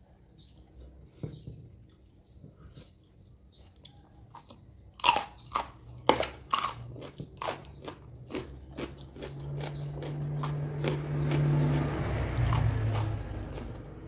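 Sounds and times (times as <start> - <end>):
person chewing: 0.5 - 14.0.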